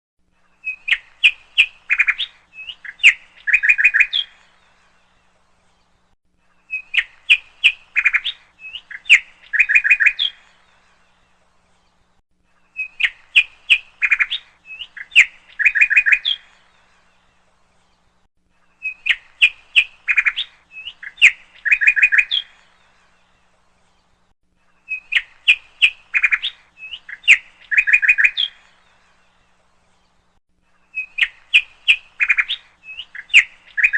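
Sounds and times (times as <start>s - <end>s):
bird chirps and trill: 0.4s - 6.0s, 6.6s - 11.3s, 12.6s - 18.1s, 18.7s - 30.2s, 30.8s - 33.9s.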